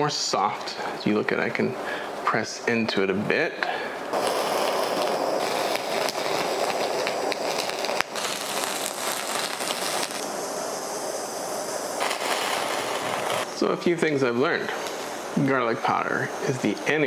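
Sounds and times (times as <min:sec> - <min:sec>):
blowtorch hissing: 0:00.0 - 0:02.7, 0:03.3 - 0:17.0.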